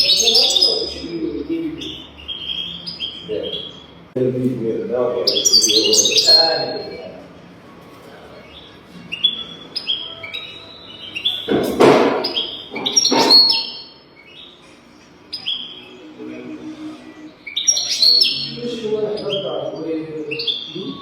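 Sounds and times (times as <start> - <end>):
bird twittering song: 0.0 - 4.2, 5.1 - 7.2, 8.4 - 16.5, 17.1 - 21.0.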